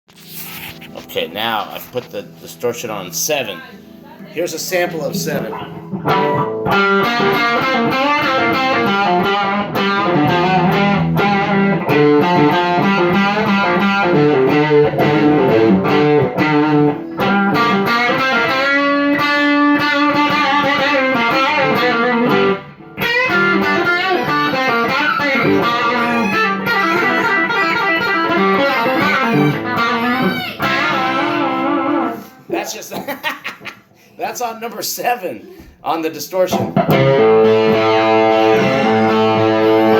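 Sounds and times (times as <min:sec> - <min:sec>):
distorted electric guitar riffs: 0:00.2 - 0:32.5, 0:36.5 - 0:39.9.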